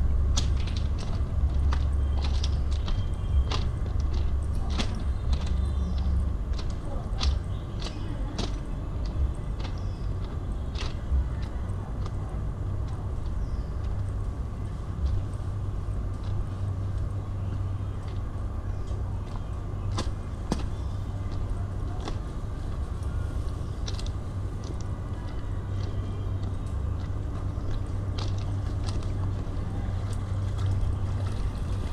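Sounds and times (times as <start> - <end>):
low street rumble: 0.0 - 31.9.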